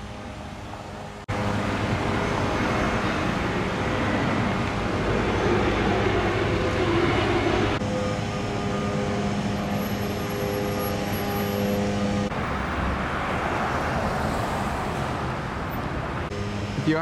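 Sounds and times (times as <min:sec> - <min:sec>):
droning multi-tone hum: 0:00.0 - 0:12.8, 0:16.1 - 0:17.0
street traffic: 0:00.0 - 0:17.0.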